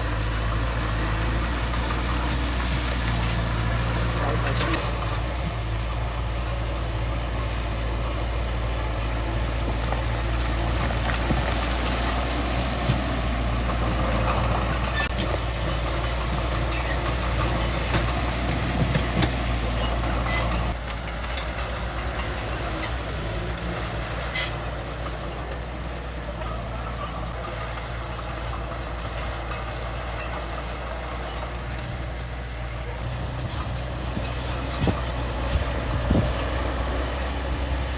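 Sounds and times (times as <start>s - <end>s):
heavy diesel machinery running: 0.0s - 37.9s.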